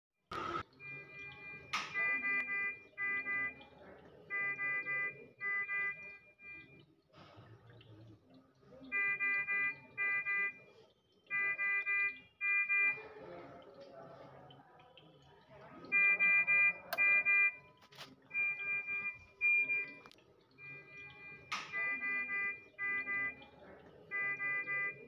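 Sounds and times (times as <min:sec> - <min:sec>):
electronic beeps: 0:00.6 - 0:07.0, 0:08.7 - 0:13.3, 0:15.7 - 0:25.0.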